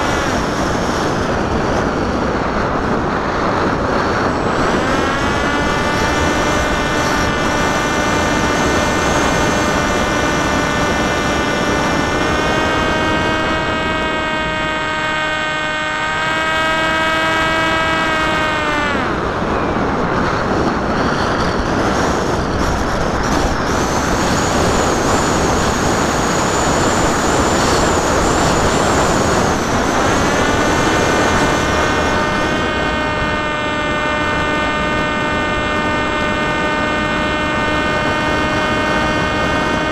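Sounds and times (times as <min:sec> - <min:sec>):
electric motor and propeller whining: 0:00.0 - 0:39.9
rushing wind: 0:00.0 - 0:39.9.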